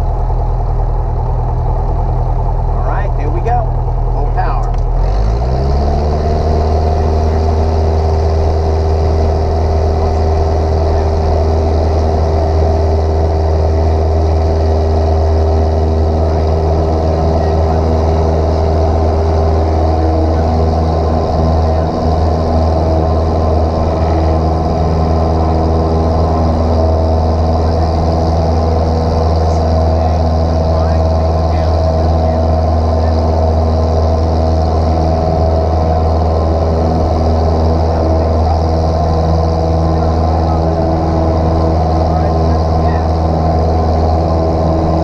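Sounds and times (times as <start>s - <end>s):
airplane piston engine: 0.0s - 45.0s.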